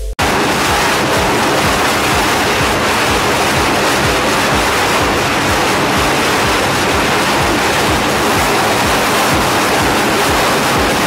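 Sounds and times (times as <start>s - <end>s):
jet engines roaring: 0.2s - 11.0s.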